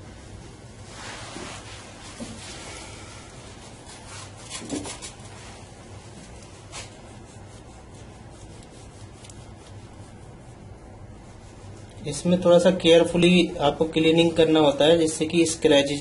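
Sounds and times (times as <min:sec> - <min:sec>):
cloth wiping glass screen: 0:00.2 - 0:16.0.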